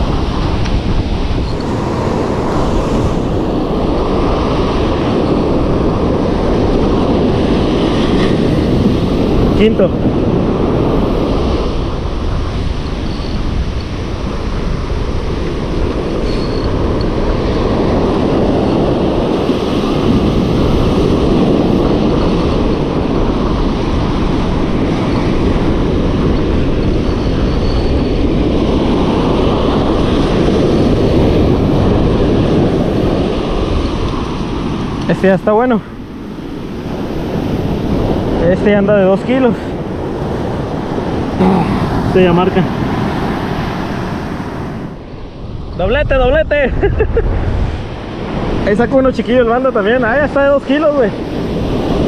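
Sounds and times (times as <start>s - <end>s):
waves breaking on beach: 0.0s - 45.7s, 46.3s - 52.0s
wind rumble on microphone: 0.0s - 52.0s.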